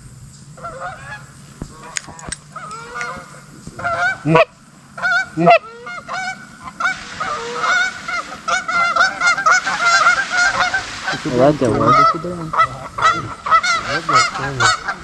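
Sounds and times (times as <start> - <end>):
geese honking and clucking: 0.6 - 15.0.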